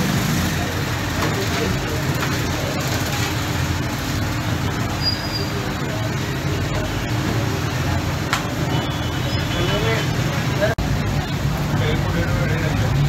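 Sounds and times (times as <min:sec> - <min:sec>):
busy street food stall rumble: 0:00.0 - 0:13.0.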